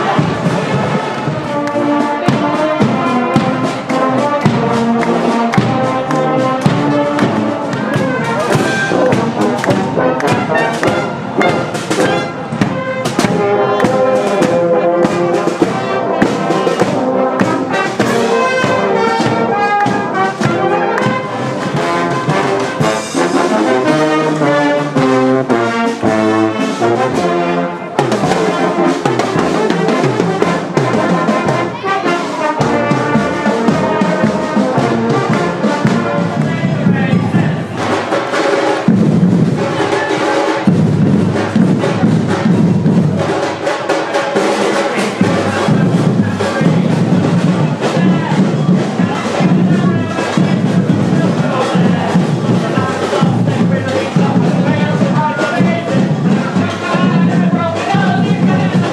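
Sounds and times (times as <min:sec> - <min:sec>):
brass band playing: 0:00.0 - 0:58.9
drum beats: 0:00.0 - 0:58.9.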